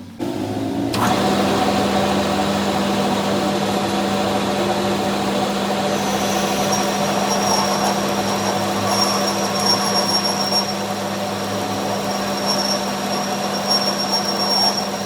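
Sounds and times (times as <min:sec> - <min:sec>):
workshop machine humming and whirring: 0:00.0 - 0:15.0
thin high whine: 0:01.8 - 0:15.0.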